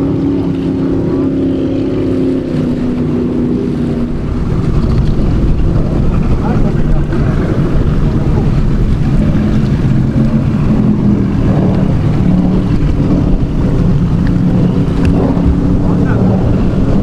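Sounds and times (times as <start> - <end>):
boat engines droning: 0.0 - 17.0
wind buffeting microphone: 0.0 - 17.0.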